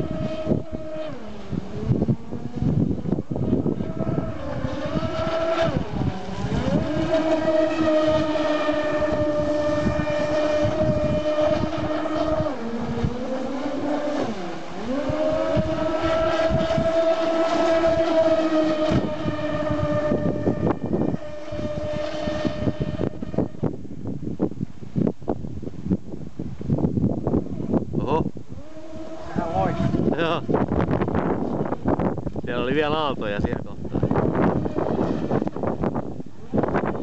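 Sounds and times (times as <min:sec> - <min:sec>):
electric motors whining: 0:00.0 - 0:23.8, 0:27.2 - 0:33.2, 0:33.8 - 0:37.0
water and wind noise: 0:00.0 - 0:37.0.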